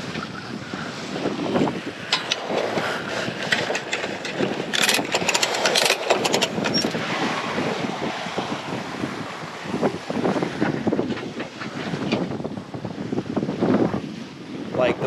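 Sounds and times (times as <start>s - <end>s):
wind and sea rushing: 0.0s - 15.0s
wind buffeting microphone: 0.0s - 15.0s.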